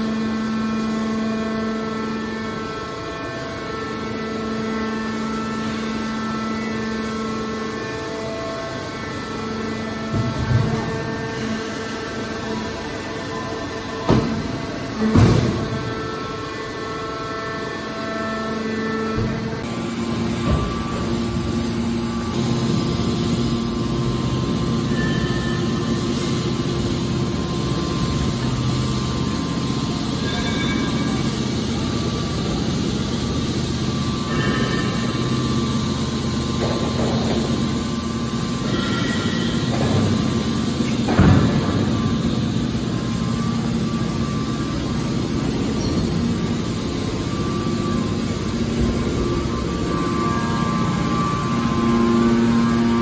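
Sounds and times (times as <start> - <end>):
deep hydraulic drone: 0.0 - 53.0
electric motor and pump hum: 0.0 - 53.0.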